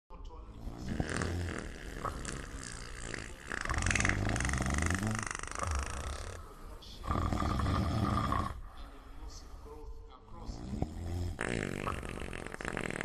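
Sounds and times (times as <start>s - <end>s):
loud rough snoring: 0.5s - 8.6s, 10.4s - 13.0s.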